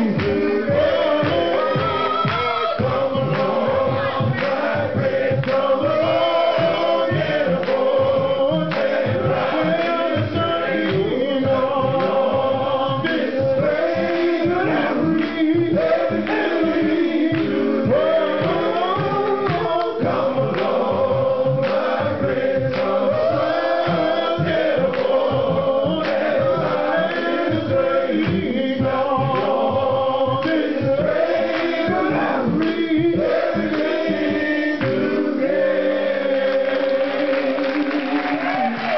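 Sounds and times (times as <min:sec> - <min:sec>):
man singing into microphone: 0:00.0 - 0:35.4
men's choir singing: 0:00.0 - 0:38.9
steady beat: 0:00.0 - 0:38.9.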